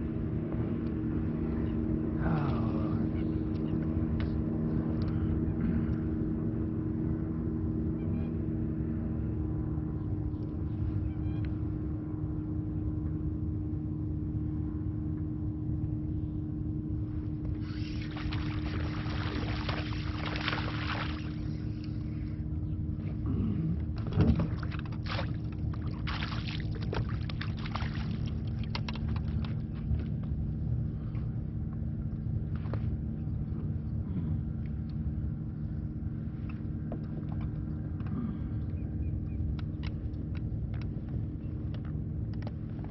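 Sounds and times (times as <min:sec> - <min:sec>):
boat motor droning: 0:00.0 - 0:42.9.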